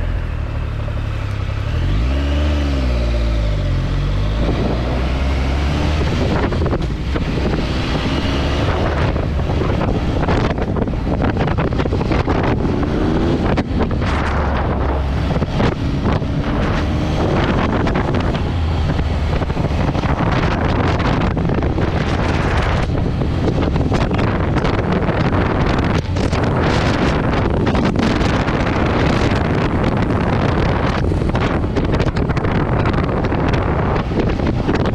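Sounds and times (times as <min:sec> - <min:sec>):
motorcycle engine rumble: 0:00.0 - 0:34.9
wind buffeting on microphone: 0:02.6 - 0:34.9.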